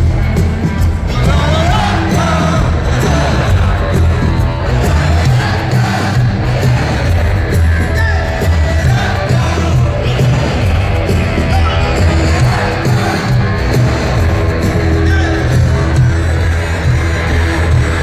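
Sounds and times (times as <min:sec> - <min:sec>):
rock band playing loudly: 0:00.0 - 0:18.0
person singing: 0:01.0 - 0:16.2.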